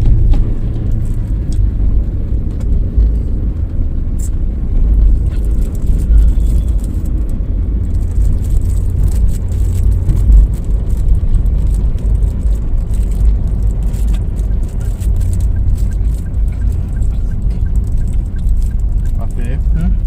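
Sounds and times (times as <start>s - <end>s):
car interior rumble while driving: 0.0s - 20.0s
faint regular ticking: 0.8s - 20.0s.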